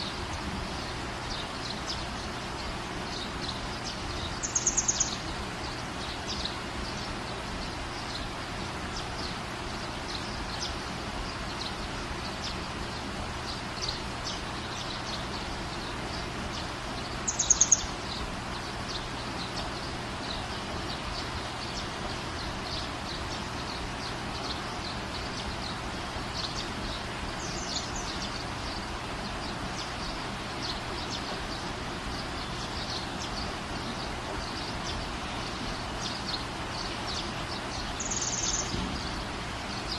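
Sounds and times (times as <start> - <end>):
steady hiss and low hum: 0.0 - 39.9.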